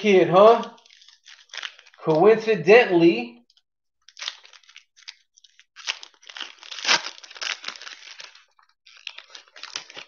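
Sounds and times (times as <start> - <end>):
plastic wrapper crinkling and tearing: 0.4 - 2.4, 3.5 - 10.0.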